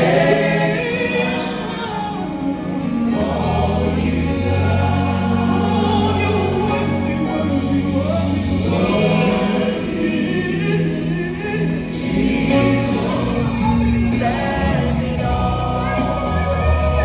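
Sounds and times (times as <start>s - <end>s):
gospel choir singing: 0.0s - 17.0s
sustained bass notes: 0.0s - 17.0s.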